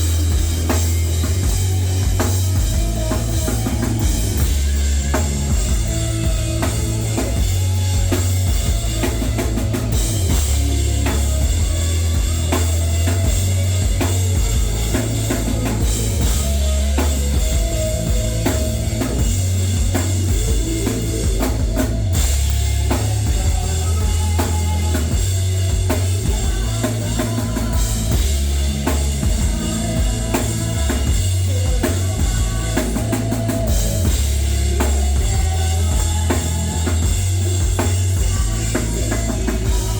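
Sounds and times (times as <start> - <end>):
heavy bass line: 0.0 - 39.9
live rock band playing: 0.0 - 39.9.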